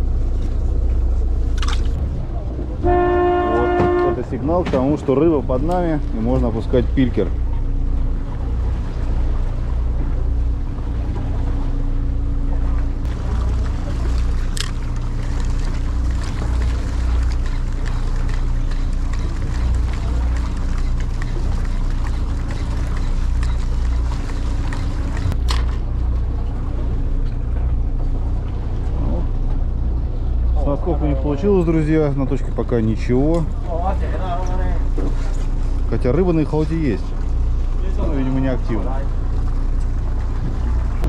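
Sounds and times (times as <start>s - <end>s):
boat engine humming: 0.0s - 41.0s
wind and water noise: 0.0s - 41.0s.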